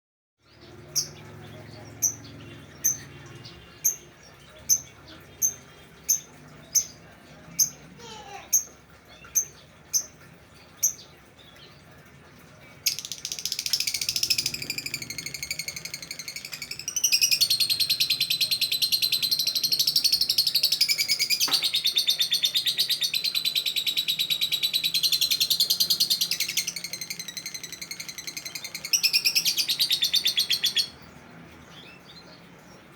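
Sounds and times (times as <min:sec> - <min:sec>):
lovebird chirping and trilling: 0:00.6 - 0:07.0, 0:07.6 - 0:10.2, 0:12.9 - 0:31.0.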